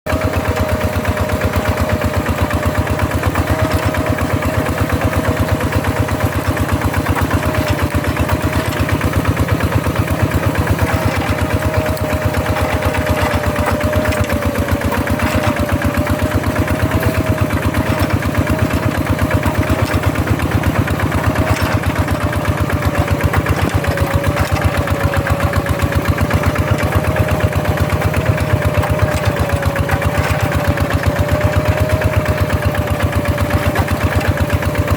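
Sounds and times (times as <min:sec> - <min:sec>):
diesel engine chugging: 0:00.1 - 0:34.9.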